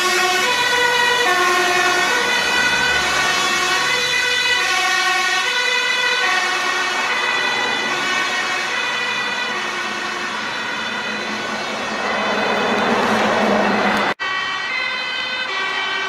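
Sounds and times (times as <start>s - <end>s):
fire engine two-tone siren: 0.0s - 16.0s.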